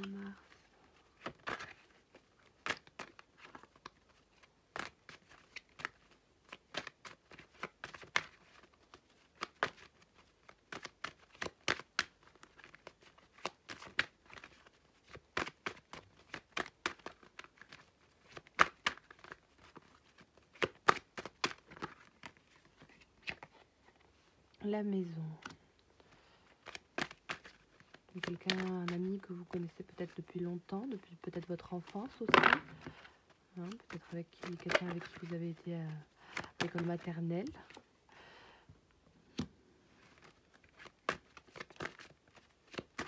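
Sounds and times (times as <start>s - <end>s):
cards being shuffled: 0.0s - 24.3s, 25.0s - 37.9s, 39.3s - 43.0s.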